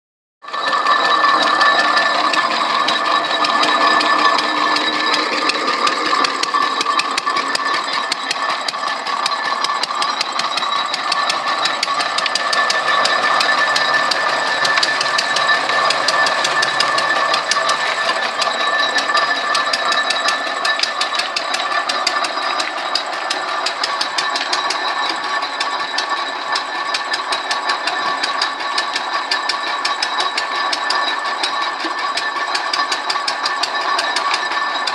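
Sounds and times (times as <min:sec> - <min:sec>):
concrete mixer engine clattering: 0:00.5 - 0:34.9
steady mechanical tones: 0:00.5 - 0:34.9.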